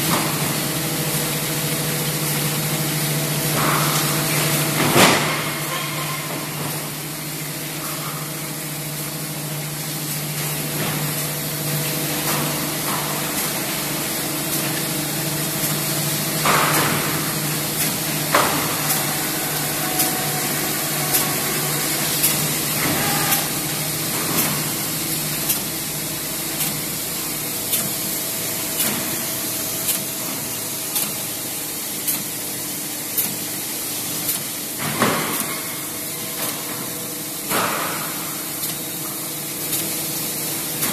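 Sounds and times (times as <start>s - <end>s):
machine hiss and hum: 0.0s - 40.9s.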